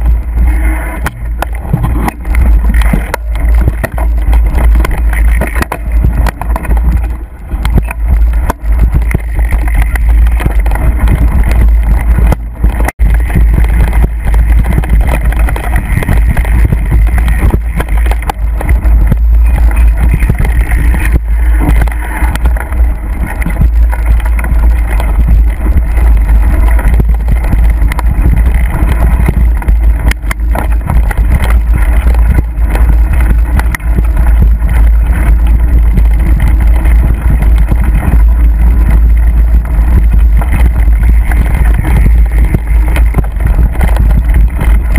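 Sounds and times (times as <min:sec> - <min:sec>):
bike knocking on bumps: 0:00.0 - 0:44.9
wind and ride rumble: 0:00.0 - 0:44.9.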